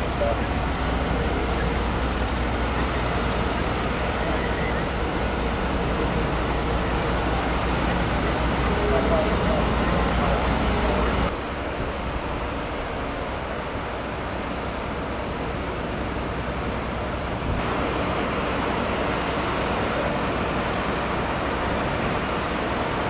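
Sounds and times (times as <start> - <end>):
city street traffic: 0.0 - 23.0.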